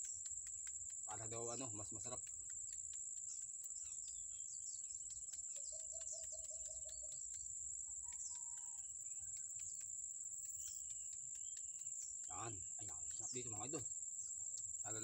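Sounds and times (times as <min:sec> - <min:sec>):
birds chirping: 0:00.0 - 0:15.0
insect drone: 0:00.0 - 0:15.0.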